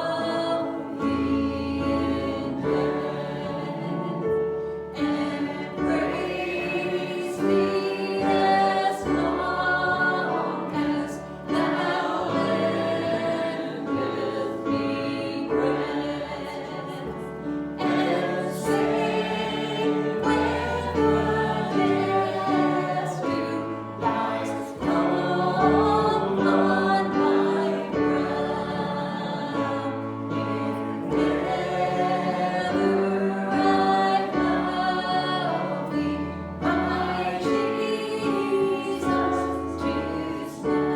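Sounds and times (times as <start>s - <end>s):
group singing gospel song: 0.0s - 40.9s.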